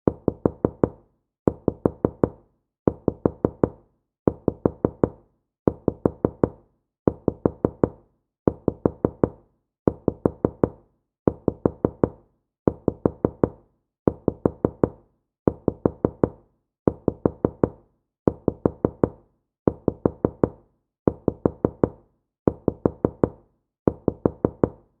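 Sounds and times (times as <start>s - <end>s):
soft knocking on wooden door: 0.1s - 24.8s.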